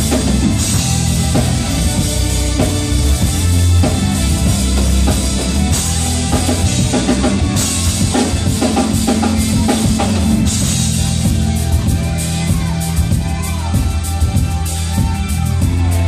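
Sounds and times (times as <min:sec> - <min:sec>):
bass line: 0:00.0 - 0:16.0
drum kit: 0:00.0 - 0:16.0
keyboard: 0:00.0 - 0:16.0.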